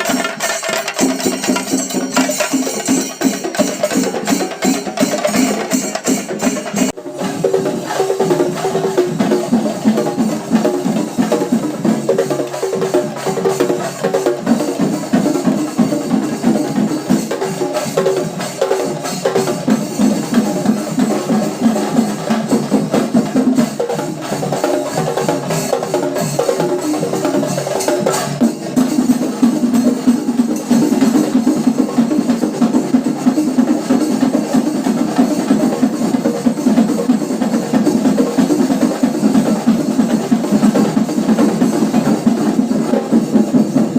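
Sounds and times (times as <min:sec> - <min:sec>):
fast percussion ensemble drumming: 0:00.0 - 0:43.9.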